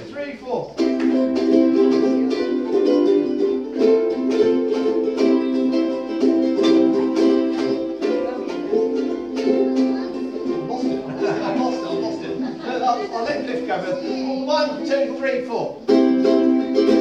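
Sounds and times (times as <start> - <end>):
ukuleles strumming: 0.6 - 17.0.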